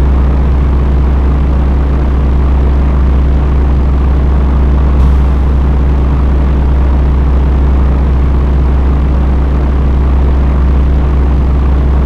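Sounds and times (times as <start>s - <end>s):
deep motor drone: 0.0s - 12.0s.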